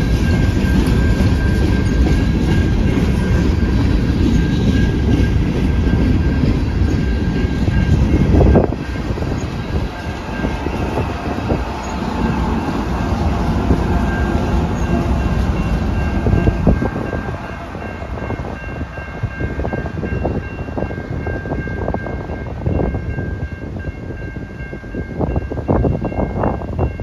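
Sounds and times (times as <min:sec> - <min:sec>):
railroad cars rumbling past: 0:00.0 - 0:27.0.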